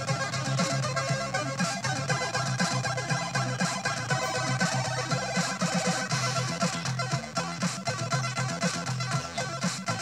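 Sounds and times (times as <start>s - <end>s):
music playing from a boombox: 0.0s - 10.0s.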